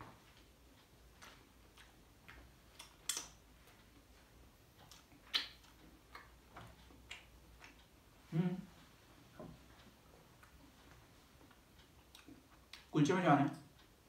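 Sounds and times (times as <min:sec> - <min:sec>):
person chewing with wet smacks: 0:00.3 - 0:12.9.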